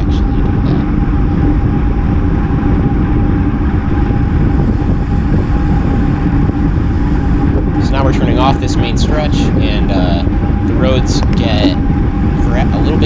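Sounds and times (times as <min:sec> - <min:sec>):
constant hum: 0:00.0 - 0:13.0
wind rumbling on microphone: 0:00.0 - 0:13.0.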